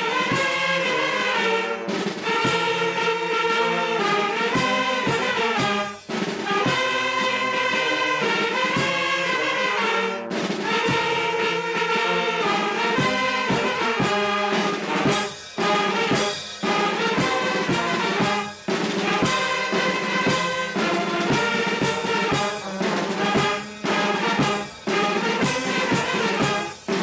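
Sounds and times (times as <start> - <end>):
brass band playing anthem: 0.0 - 27.0.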